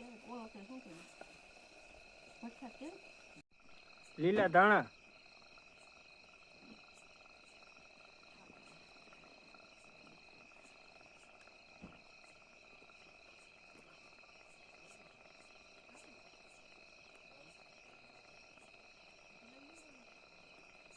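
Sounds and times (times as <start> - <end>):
insect chirping: 0.0 - 20.9.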